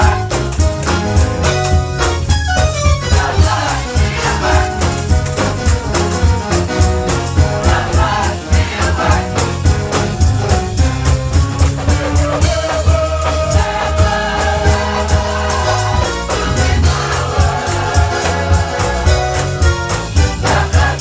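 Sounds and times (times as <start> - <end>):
choir singing gospel: 0.0 - 2.1, 2.8 - 10.4, 11.8 - 21.0
bass line: 0.0 - 21.0
drums beating: 0.0 - 21.0.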